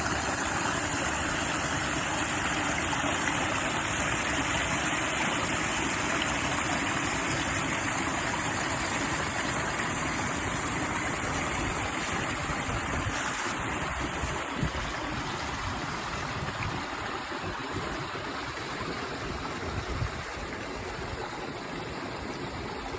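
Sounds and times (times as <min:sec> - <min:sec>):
stream water flowing: 0:00.0 - 0:22.9.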